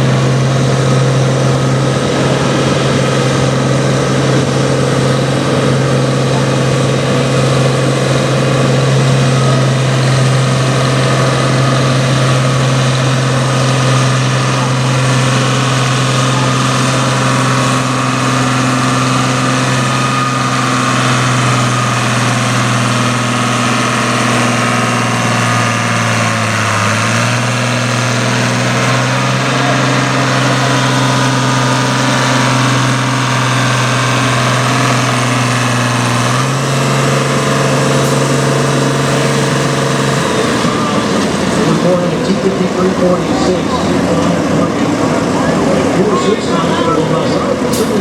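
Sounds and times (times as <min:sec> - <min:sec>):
tractor engine running under load: 0:00.0 - 0:48.0.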